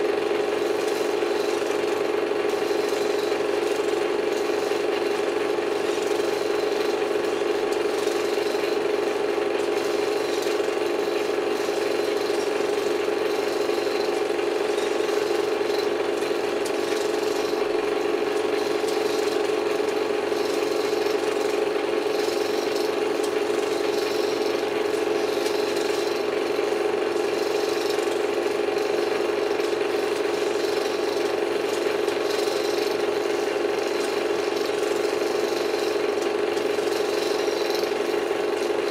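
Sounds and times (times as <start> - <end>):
projector mechanical hum: 0.0 - 38.9.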